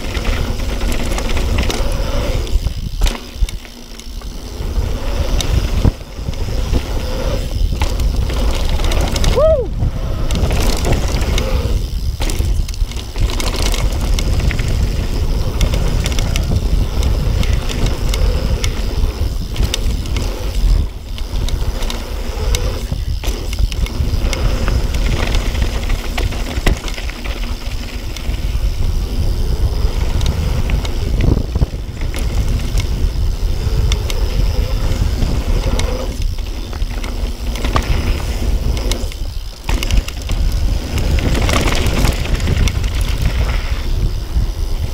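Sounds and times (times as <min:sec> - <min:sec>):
bike rattling: 0:00.0 - 0:44.9
tyres rolling on dirt: 0:00.0 - 0:44.9
wind rushing over microphone: 0:00.0 - 0:44.9.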